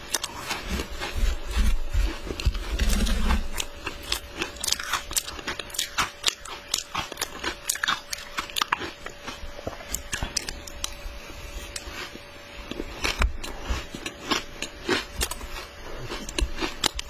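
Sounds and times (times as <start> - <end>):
ice being crunched and chewed: 0.0 - 11.0, 11.6 - 17.0
faint steady hum: 0.0 - 17.0.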